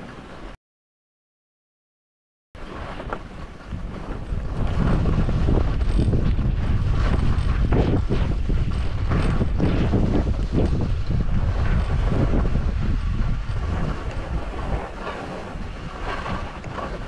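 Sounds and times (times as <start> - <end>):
skis scraping over lumpy snow: 2.6 - 17.0
wind buffeting microphone: 2.6 - 17.0.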